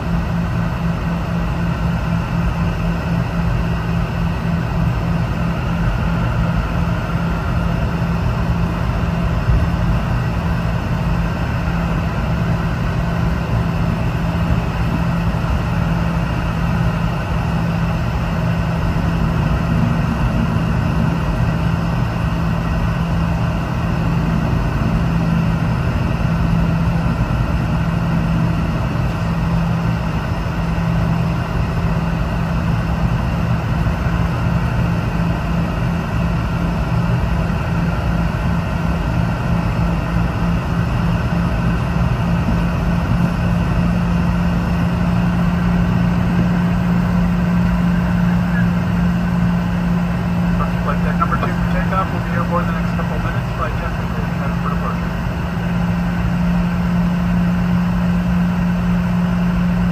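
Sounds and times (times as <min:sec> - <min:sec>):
aircraft cabin drone: 0:00.0 - 0:59.9
constant low tone: 0:00.0 - 0:59.9.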